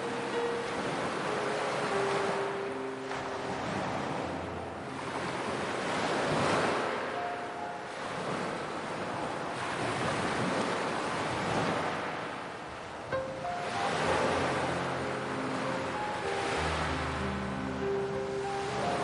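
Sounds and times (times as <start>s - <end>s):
ocean waves washing in: 0.0s - 19.0s.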